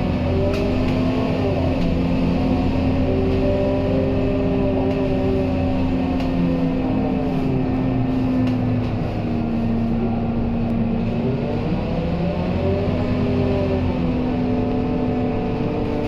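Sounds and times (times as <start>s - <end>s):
bus diesel engine running: 0.0s - 16.0s
drivetrain whine: 0.0s - 16.0s.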